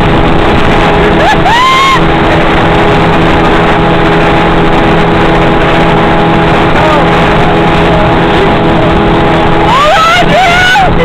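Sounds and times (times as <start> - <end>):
motorboat engine drone: 0.0 - 11.0
rush of wind and water: 0.0 - 11.0.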